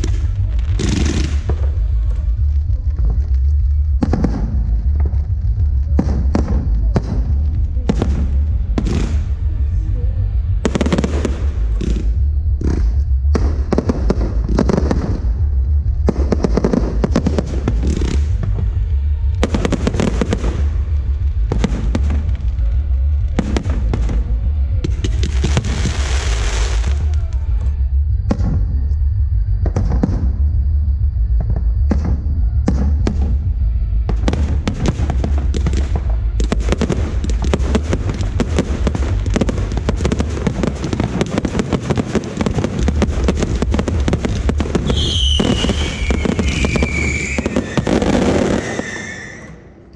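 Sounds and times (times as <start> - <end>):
crackling firework shells: 0.0 - 9.9, 10.6 - 28.6, 31.4 - 49.7
fireworks bangs: 0.0 - 28.8, 31.4 - 49.8
deep rumble: 0.0 - 49.9.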